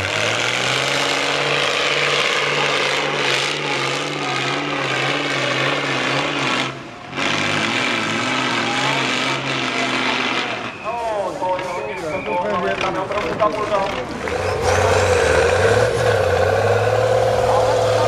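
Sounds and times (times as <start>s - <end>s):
diesel engine revving under load: 0.0s - 10.8s, 13.9s - 18.0s.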